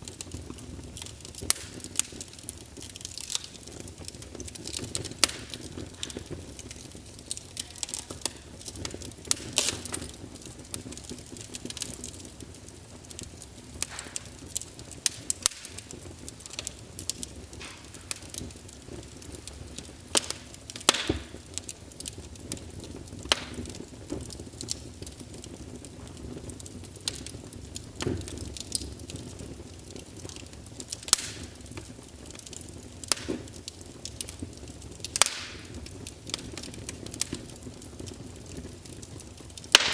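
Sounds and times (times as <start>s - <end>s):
low rushing of flames: 0.0s - 39.9s
wood fire crackling and popping: 0.0s - 39.9s.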